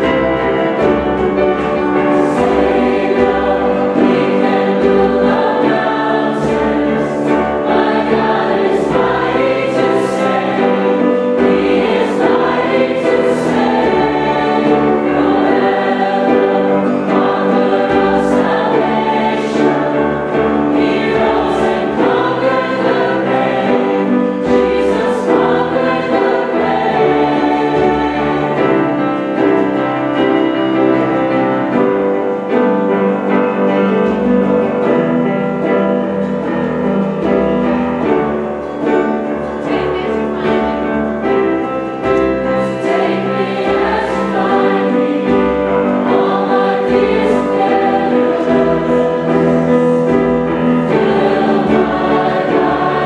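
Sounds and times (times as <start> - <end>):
choir and congregation singing hymn: 0.0 - 53.0
instrumental accompaniment: 0.0 - 53.0.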